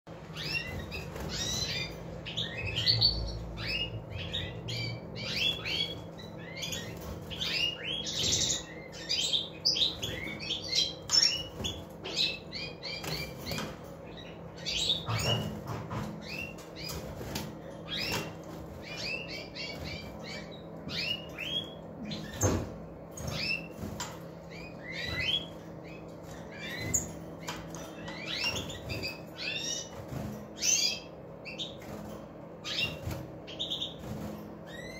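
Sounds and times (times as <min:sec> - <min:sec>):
goldfinches twittering: 0:00.3 - 0:32.0, 0:32.6 - 0:34.9.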